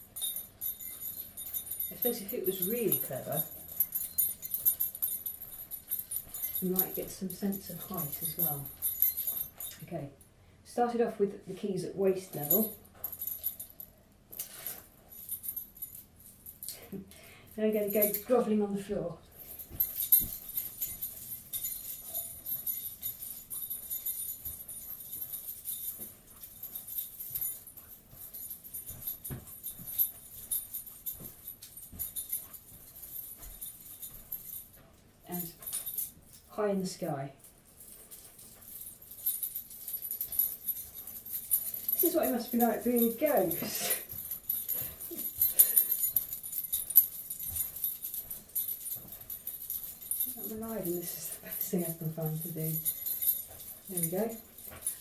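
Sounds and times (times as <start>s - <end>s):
keys jangling: 0.0s - 10.0s, 12.3s - 17.1s, 19.3s - 36.5s, 37.4s - 55.0s.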